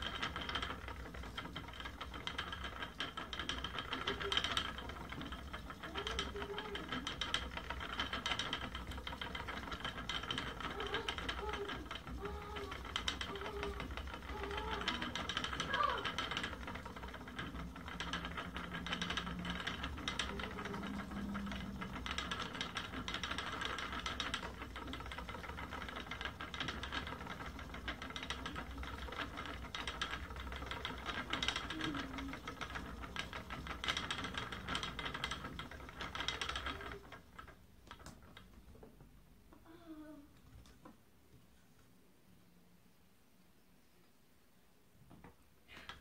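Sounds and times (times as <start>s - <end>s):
spinning wheel clicking rattle: 0.0s - 39.8s, 45.7s - 46.0s.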